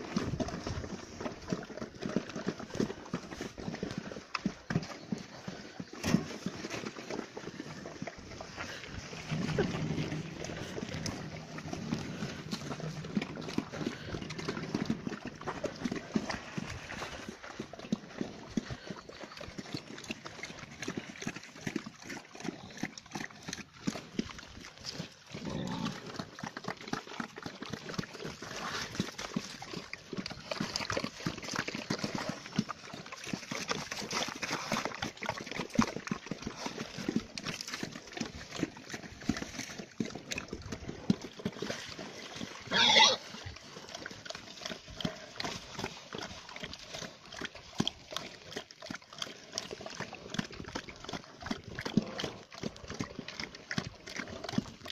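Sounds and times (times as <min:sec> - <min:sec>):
pigs eating and slurping: 0:00.0 - 0:54.9.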